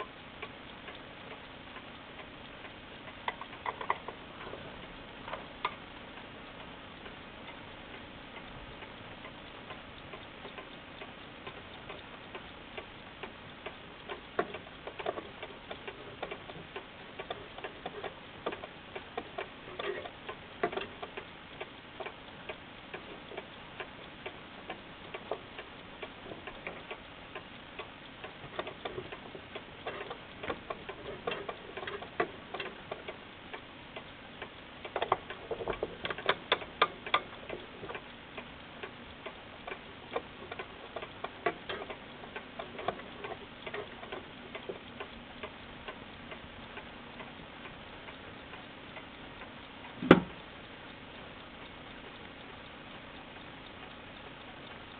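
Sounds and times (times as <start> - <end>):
clock ticking: 0.0 - 54.9.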